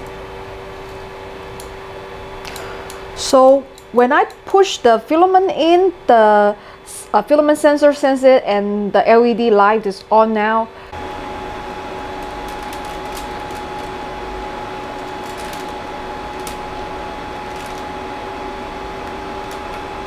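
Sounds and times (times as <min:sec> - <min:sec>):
cooling fans whirring: 0:00.0 - 0:20.0.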